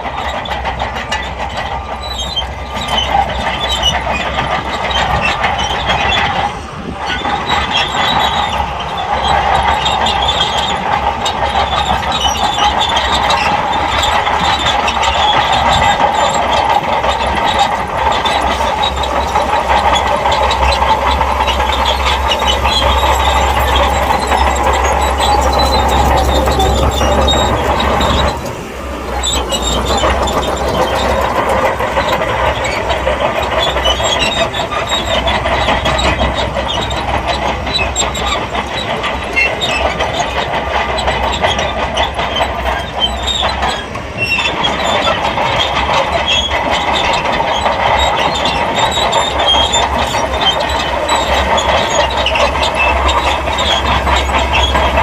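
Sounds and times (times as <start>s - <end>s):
diesel engine rumble: 0.0s - 55.0s
steel tracks clattering and squealing: 0.0s - 55.0s.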